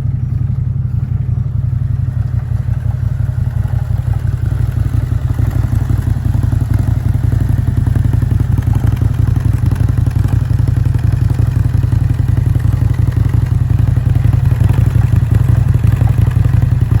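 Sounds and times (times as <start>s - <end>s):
engine running with clatter: 0.0s - 17.0s.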